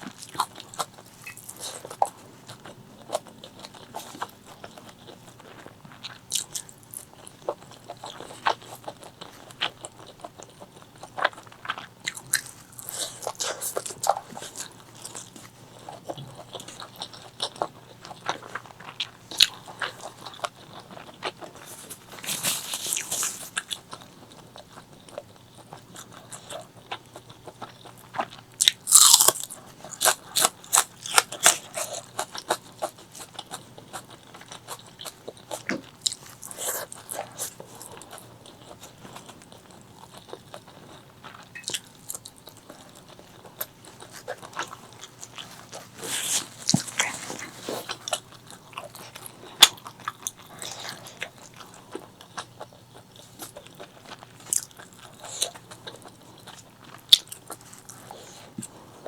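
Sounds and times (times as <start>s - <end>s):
chewing with crunches: 0.0s - 59.0s.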